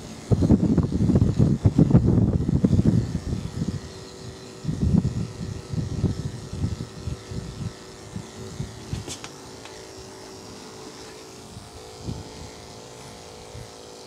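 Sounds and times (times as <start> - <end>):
electric clipper humming: 0.0 - 14.0.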